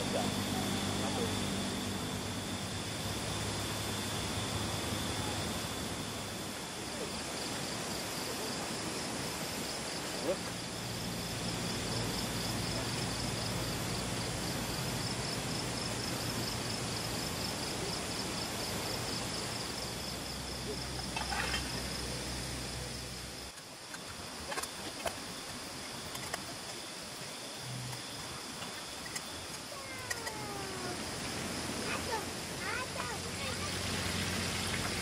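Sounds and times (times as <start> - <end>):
insects chirping: 0.0 - 35.0
low steady hum: 0.0 - 35.0.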